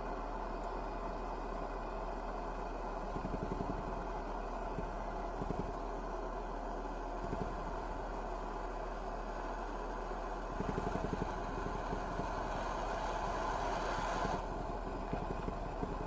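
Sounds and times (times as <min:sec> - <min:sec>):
engine buzzing rattle: 0:00.0 - 0:16.0
rapid ticking clatter: 0:00.5 - 0:16.0.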